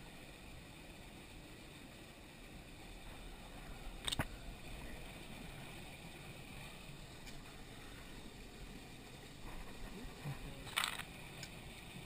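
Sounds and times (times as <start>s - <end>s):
small stream running: 0.0s - 12.0s.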